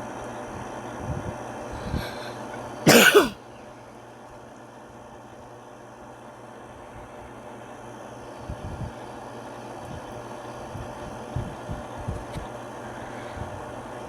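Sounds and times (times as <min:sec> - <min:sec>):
ceiling fan running: 0:00.0 - 0:14.0.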